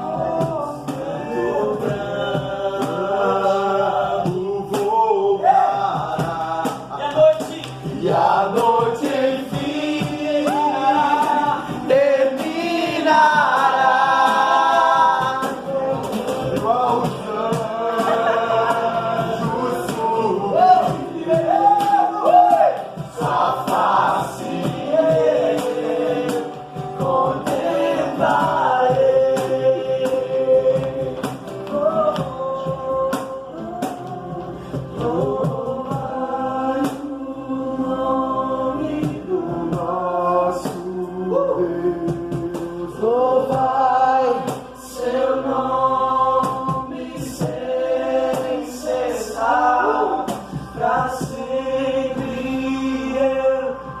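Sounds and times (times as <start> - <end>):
gospel singing: 0.0 - 54.0
instrumental accompaniment: 0.0 - 54.0.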